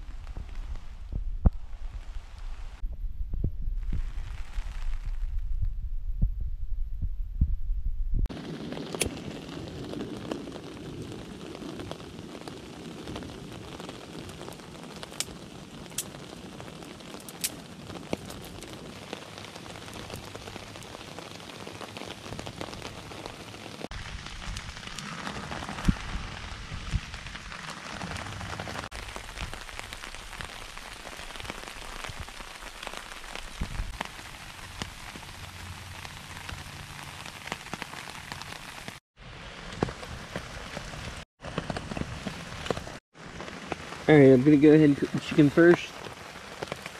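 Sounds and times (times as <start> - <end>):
rain on leaf litter: 0.0 - 2.8, 3.9 - 5.3, 8.3 - 46.9.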